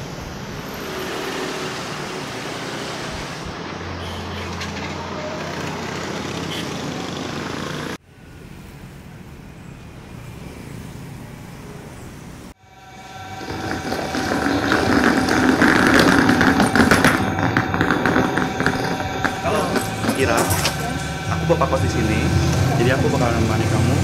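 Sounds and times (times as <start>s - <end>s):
cars and scooters passing: 0.0s - 24.0s.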